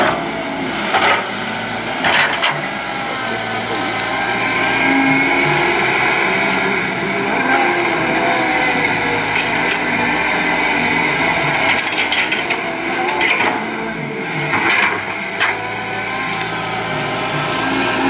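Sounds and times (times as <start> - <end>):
excavator engine and hydraulics: 0.0 - 18.0.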